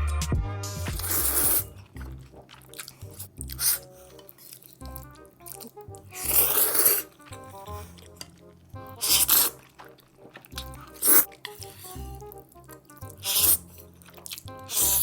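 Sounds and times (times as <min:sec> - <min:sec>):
background music: 0:00.0 - 0:15.0
crunching bites and chewing: 0:00.9 - 0:15.0.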